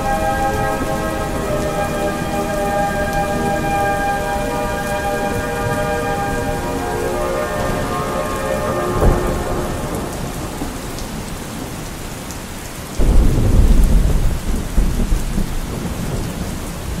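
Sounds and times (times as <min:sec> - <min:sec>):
thunder rumbling: 0:00.0 - 0:12.1, 0:13.0 - 0:17.0
steady rain: 0:00.0 - 0:17.0.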